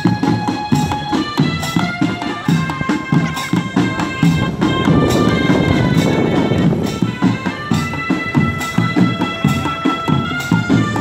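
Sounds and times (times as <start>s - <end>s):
marching drums: 0.0s - 11.0s
melody of held notes: 0.2s - 11.0s.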